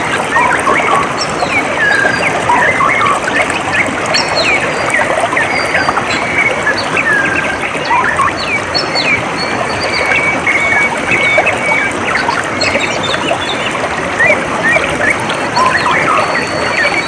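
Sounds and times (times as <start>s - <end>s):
small birds chirping: 0.0s - 17.0s
water trickling and babbling: 0.0s - 17.0s.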